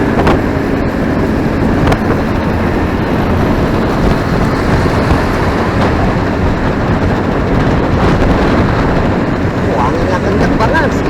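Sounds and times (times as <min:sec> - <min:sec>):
motorcycle engine: 0:00.0 - 0:11.0
wind noise: 0:00.0 - 0:11.0.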